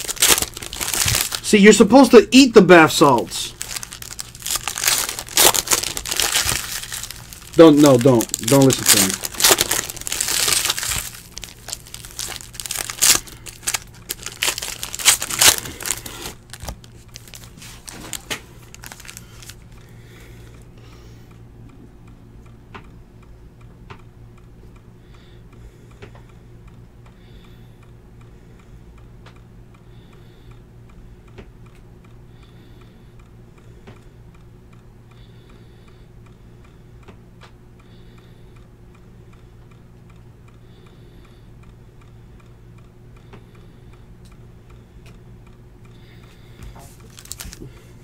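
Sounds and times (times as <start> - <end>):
low electrical hum: 0.0 - 48.0.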